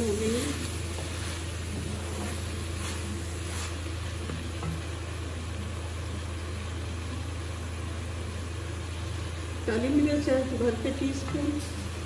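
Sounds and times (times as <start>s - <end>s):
gas stove hum and hiss: 0.0s - 12.0s.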